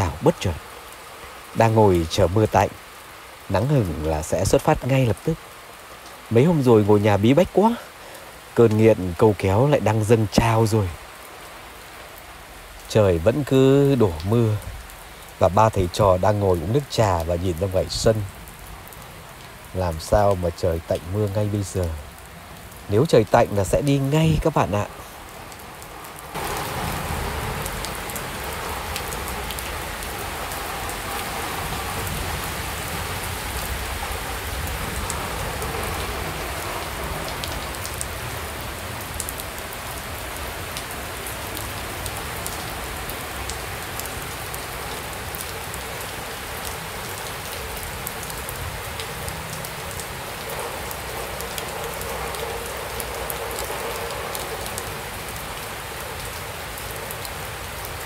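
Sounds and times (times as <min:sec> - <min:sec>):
heavy rain falling: 0:00.0 - 0:58.0
raindrops ticking: 0:00.0 - 0:58.0.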